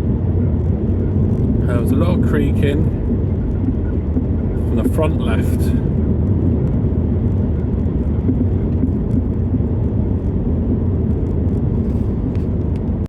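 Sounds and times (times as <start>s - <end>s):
tyre and engine rumble: 0.0s - 13.0s.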